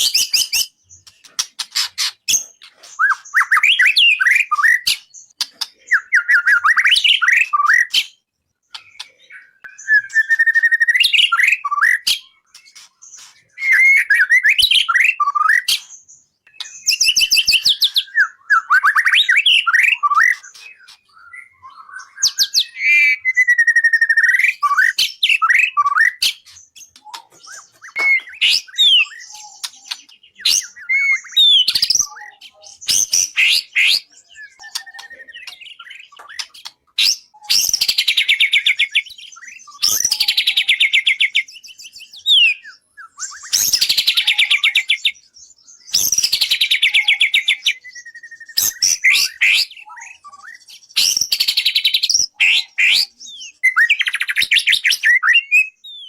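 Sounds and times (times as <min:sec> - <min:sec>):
songbird singing whistles and chirps: 0:00.0 - 0:56.0.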